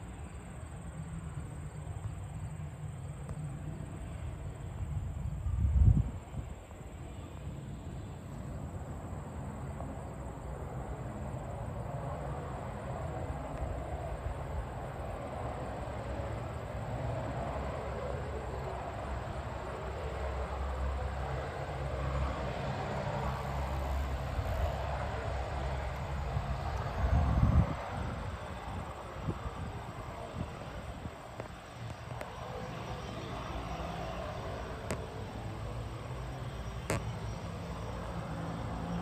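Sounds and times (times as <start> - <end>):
turboprop engine drone: 0.0 - 39.0.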